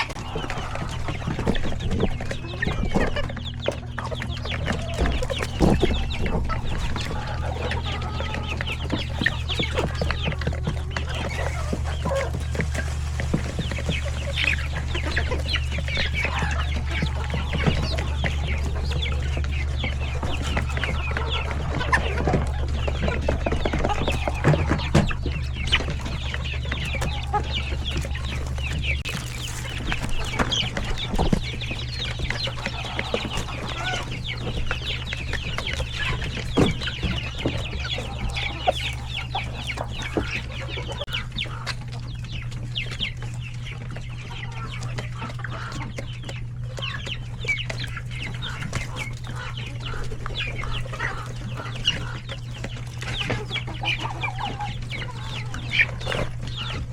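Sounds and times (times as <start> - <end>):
chickens clucking: 0.0 - 56.9
chicks cheeping: 0.0 - 56.9
steady low hum: 0.0 - 56.9.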